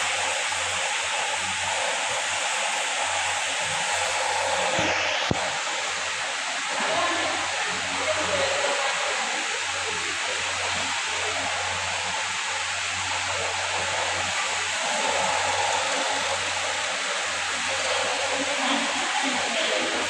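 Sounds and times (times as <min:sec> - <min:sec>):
steady rushing hiss: 0:00.0 - 0:20.0.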